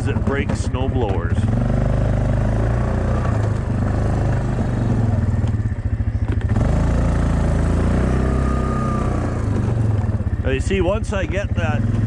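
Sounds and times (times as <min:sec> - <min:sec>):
atv engine running under load: 0:00.0 - 0:12.0.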